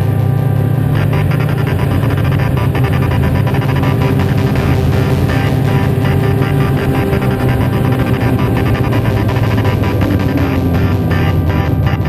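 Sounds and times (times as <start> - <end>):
upbeat music with guitar and beat: 0.0 - 12.0.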